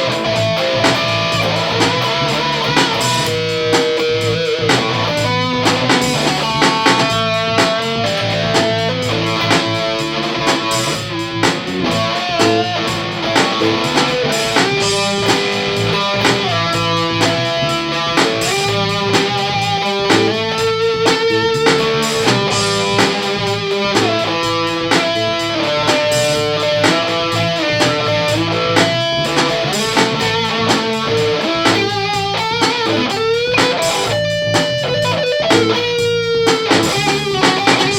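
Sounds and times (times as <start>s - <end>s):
distorted electric guitar: 0.0s - 37.9s.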